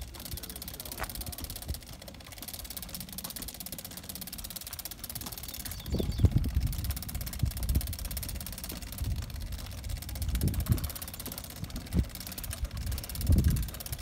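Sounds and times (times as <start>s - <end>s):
aircraft tug motor running: 0.0s - 14.0s.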